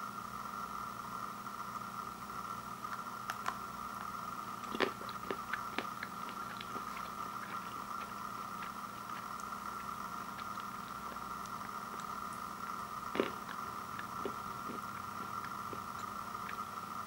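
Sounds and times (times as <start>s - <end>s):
steady background hum: 0.0s - 17.0s
person chewing chocolate: 2.8s - 17.0s.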